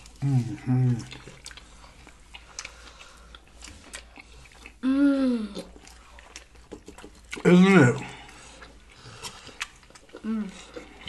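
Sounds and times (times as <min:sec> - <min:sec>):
chewing and lip-smacking: 0:00.0 - 0:04.8, 0:05.4 - 0:11.0.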